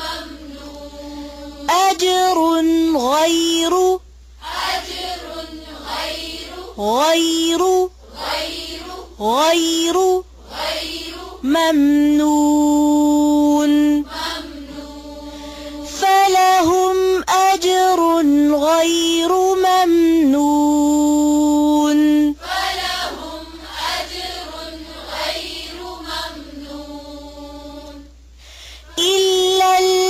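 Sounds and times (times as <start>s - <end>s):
person chanting recitation: 0.0s - 28.1s, 28.8s - 30.0s.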